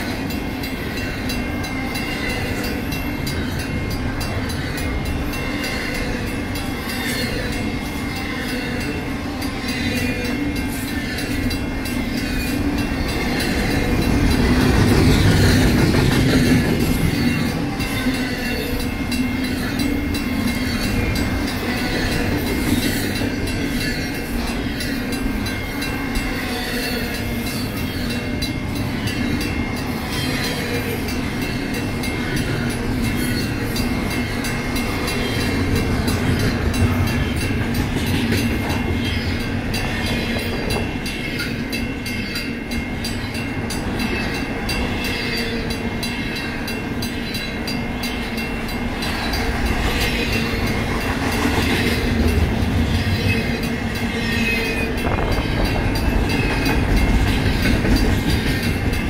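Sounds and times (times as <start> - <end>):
crossing bells ringing: 0.0 - 59.0
freight train wheels clattering: 9.8 - 59.0.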